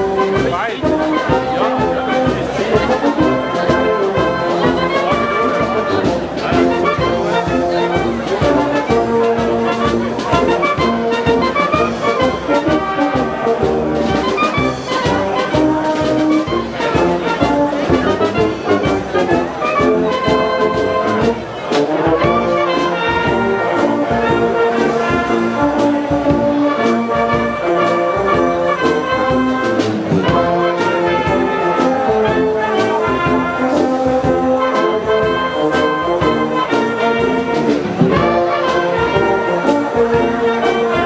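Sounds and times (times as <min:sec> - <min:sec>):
wind band playing: 0:00.0 - 0:41.0.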